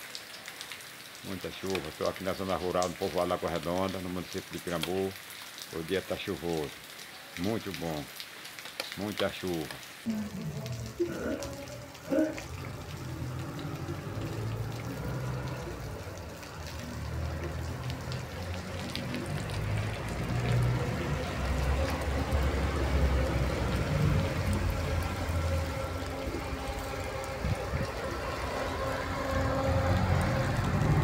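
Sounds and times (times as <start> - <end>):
rain falling on a street: 0.0 - 31.0
running water: 0.0 - 31.0.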